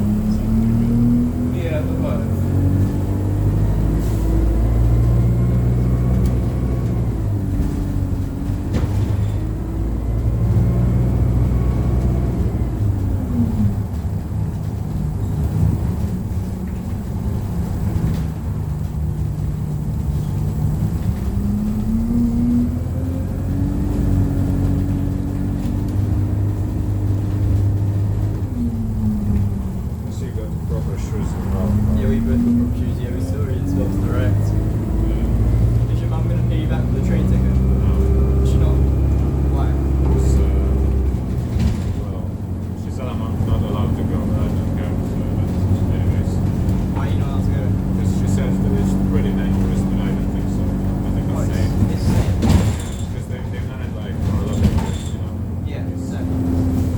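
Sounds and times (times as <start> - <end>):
bus engine: 0.0 - 56.9.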